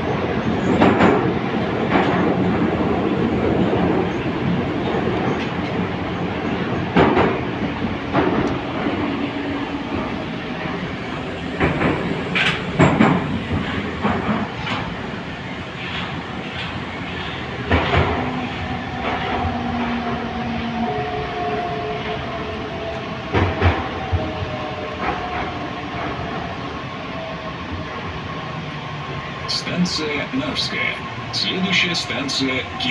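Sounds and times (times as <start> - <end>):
train rolling rumble: 0.0 - 32.9.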